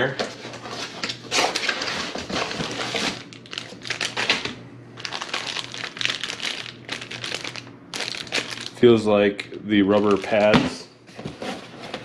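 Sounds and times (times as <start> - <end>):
packaging crinkling and rustling: 0.5 - 8.8, 9.9 - 11.4.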